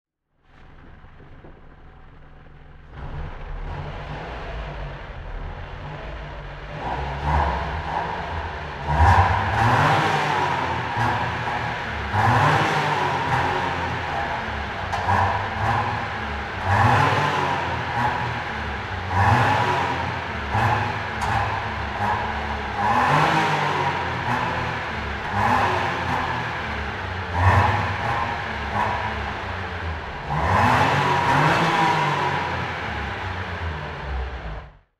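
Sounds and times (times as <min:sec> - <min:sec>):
car engine revving: 0:00.4 - 0:34.9.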